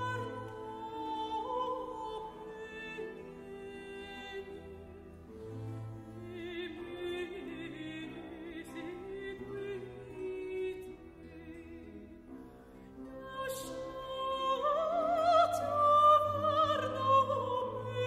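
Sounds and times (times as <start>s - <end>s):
bowed strings: 0.0s - 18.0s
woman singing operatic aria: 0.0s - 18.0s.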